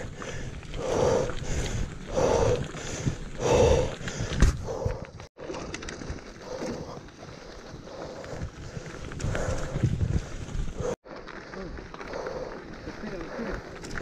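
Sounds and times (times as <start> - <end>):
bicycle tyres crunching on gravel: 0.0 - 14.0.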